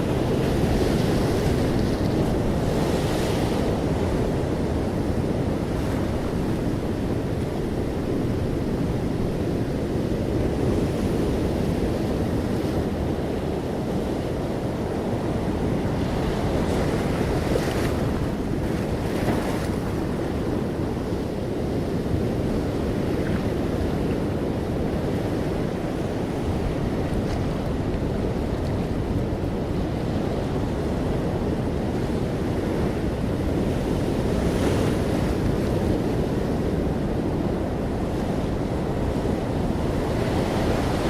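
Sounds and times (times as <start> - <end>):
sea waves on shore: 0.0 - 41.0.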